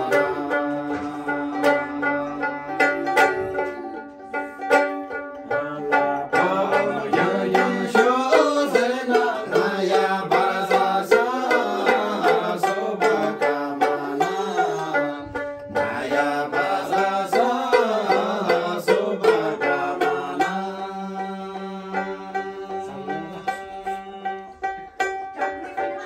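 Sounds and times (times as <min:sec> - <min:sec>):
men singing: 0:00.0 - 0:04.1, 0:04.7 - 0:24.9
lutes strummed: 0:00.0 - 0:26.0.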